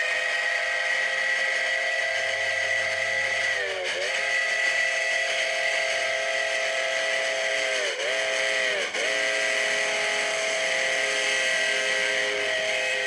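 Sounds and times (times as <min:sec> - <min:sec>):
steam locomotive whistle: 0:00.0 - 0:13.0.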